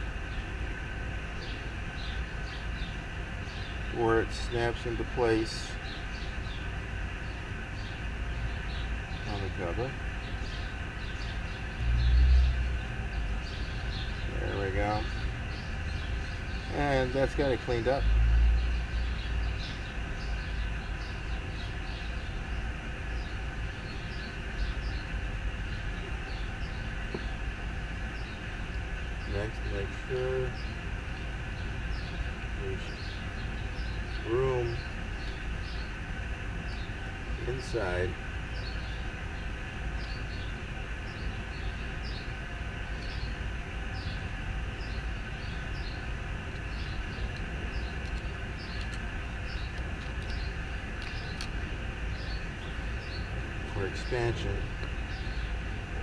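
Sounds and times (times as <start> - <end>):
birds chirping: 0.0 - 56.0
steady low rumble: 0.0 - 56.0.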